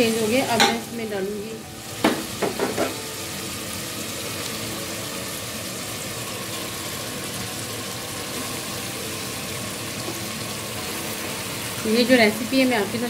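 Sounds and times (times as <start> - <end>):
oil sizzling in a pressure cooker: 0.0 - 13.0.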